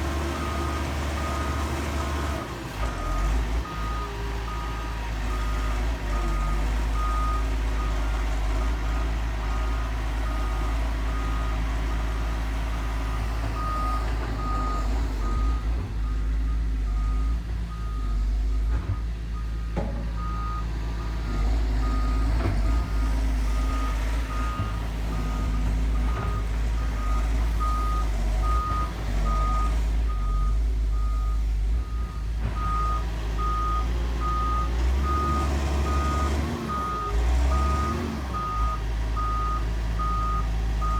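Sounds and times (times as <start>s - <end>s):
excavator diesel engine rumbling: 0.0s - 40.9s.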